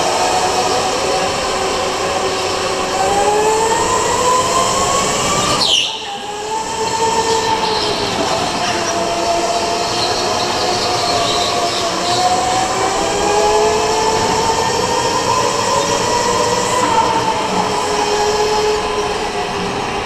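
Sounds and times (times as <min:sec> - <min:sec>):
electric go-kart motor whining: 0:00.7 - 0:20.0.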